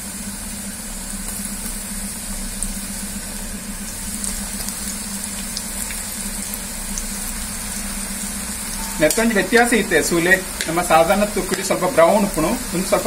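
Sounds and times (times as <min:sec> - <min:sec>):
dough deep-frying in oil: 0:00.0 - 0:13.0
low steady hum: 0:00.0 - 0:13.0.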